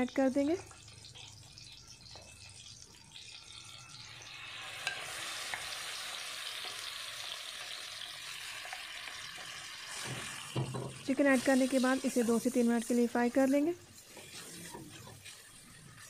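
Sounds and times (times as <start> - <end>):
chicken sizzling in a wok: 0.0 - 16.0.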